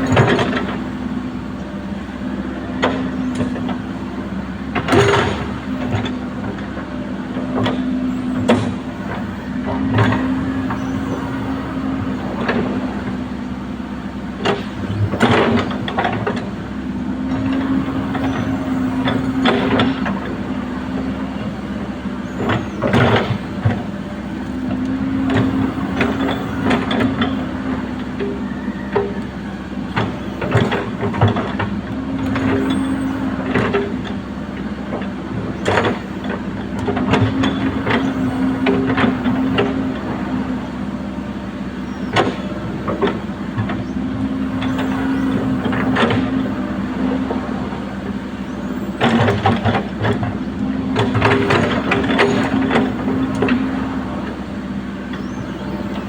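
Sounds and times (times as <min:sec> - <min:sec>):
excavator engine hum: 0:00.0 - 0:56.0.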